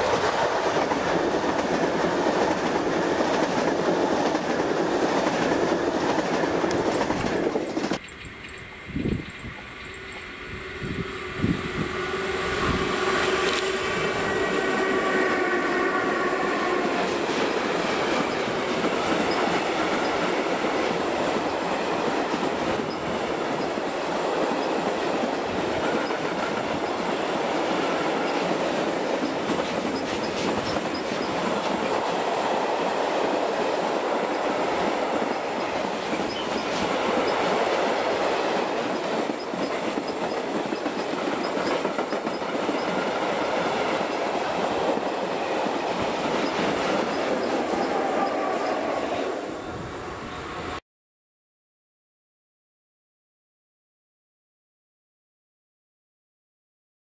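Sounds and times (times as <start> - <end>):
locomotive steady tones: 0.0 - 50.8.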